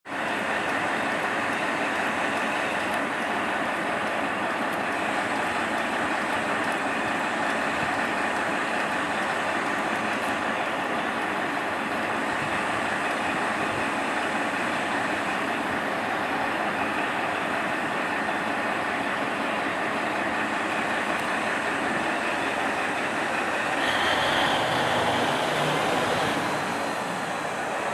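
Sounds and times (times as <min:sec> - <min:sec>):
diesel railcar engines idling: 0:00.1 - 0:27.9.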